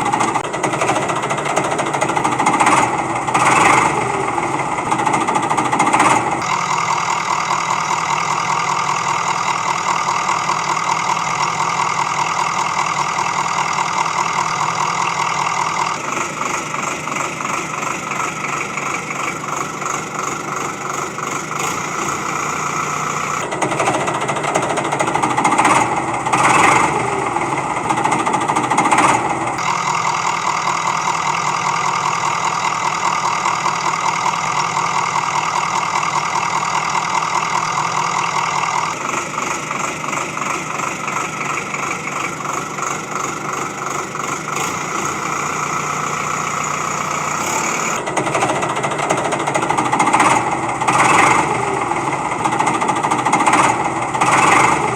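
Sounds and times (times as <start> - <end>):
small engine chattering: 0.0 - 54.9.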